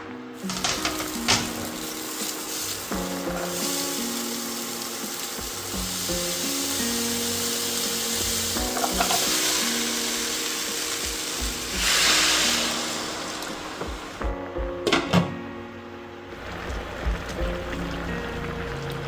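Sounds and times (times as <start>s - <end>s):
background music: 0.0s - 19.0s
stir-fry sizzling in a pan: 0.4s - 14.3s, 16.2s - 19.0s.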